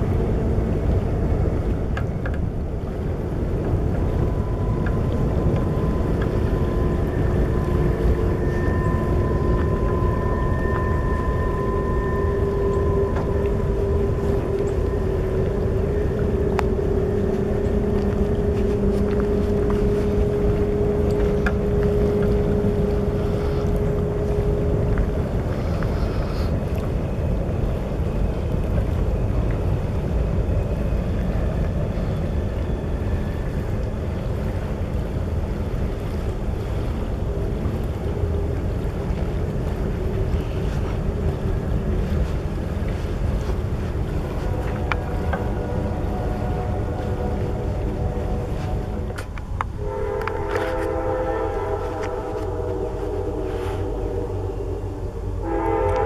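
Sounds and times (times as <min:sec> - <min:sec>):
distant freight train rumbling: 0:00.0 - 0:56.0
faint steady hum: 0:00.0 - 0:56.0
wind on microphone: 0:00.0 - 0:56.0.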